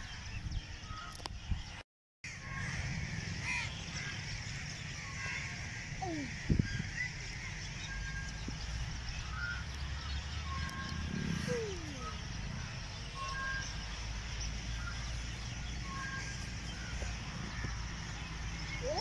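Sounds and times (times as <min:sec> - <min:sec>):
birds chirping: 0:00.0 - 0:19.0
falling bird calls: 0:02.3 - 0:19.0.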